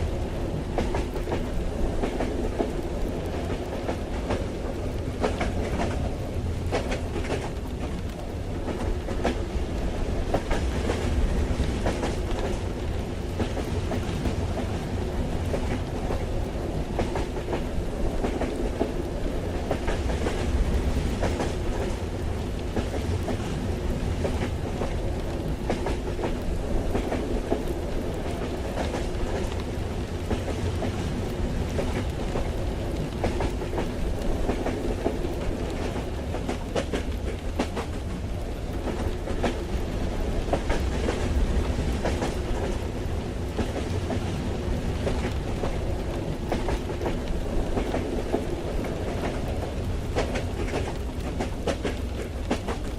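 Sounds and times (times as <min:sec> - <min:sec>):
moving train rumble: 0:00.0 - 0:52.9
rain on train carriage: 0:00.0 - 0:52.9
wheels clicking over rail joints: 0:00.5 - 0:52.9.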